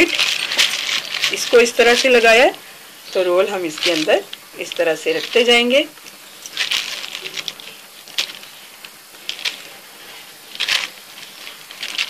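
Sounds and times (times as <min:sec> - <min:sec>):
plastic sheet crinkling: 0:00.0 - 0:12.0.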